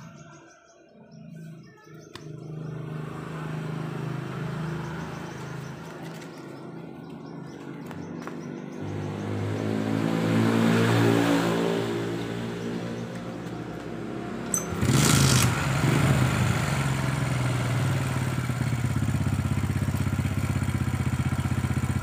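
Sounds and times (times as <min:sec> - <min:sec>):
small motorcycle engine running: 0:02.3 - 0:22.0.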